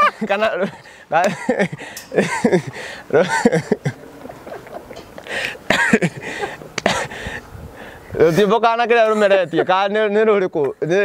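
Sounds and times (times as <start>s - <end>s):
men laughing heartily: 0.0s - 10.0s.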